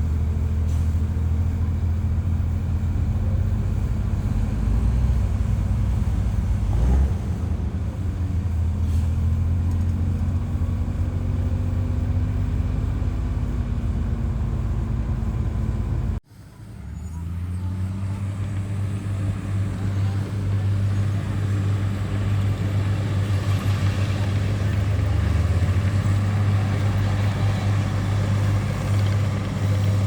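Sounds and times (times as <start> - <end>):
diesel machinery engine hum: 0.0 - 30.0.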